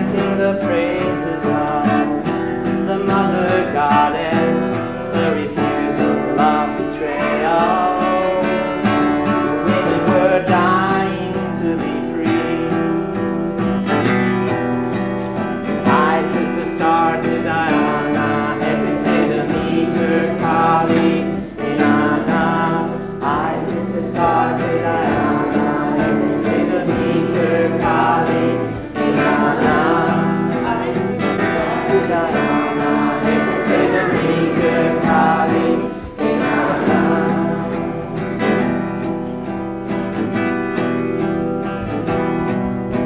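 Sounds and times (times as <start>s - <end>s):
man singing: 0.0s - 40.4s
acoustic guitar: 0.0s - 43.0s.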